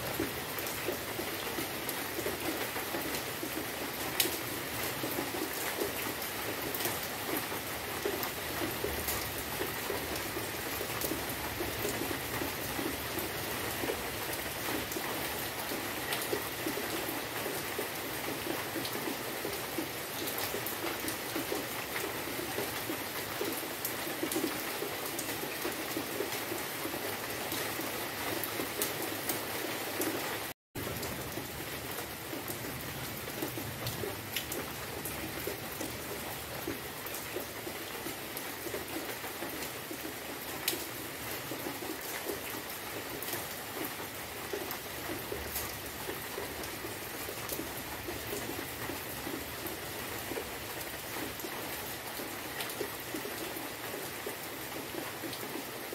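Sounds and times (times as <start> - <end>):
rain falling on leaves: 0.0 - 55.9.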